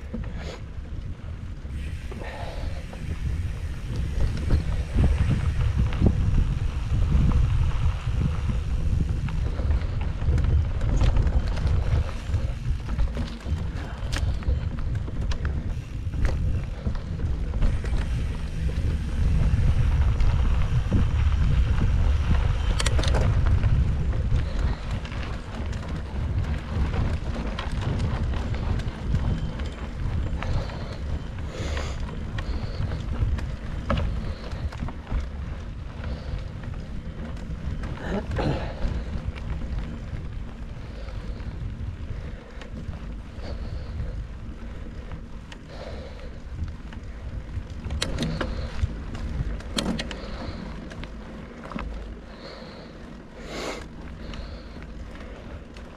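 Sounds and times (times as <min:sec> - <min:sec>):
bike clicks and rattles: 0:00.0 - 0:55.9
tyres rumbling on dirt: 0:00.0 - 0:55.9
wind buffeting microphone: 0:00.0 - 0:55.9.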